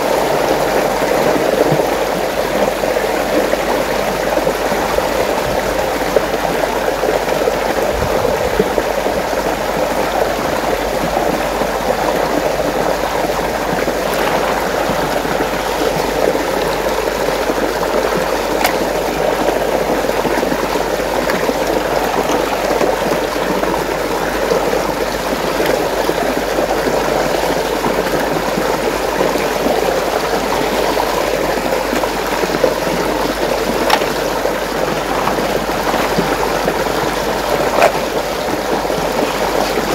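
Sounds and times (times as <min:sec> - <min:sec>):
water swirling in whirlpool: 0:00.0 - 0:39.9.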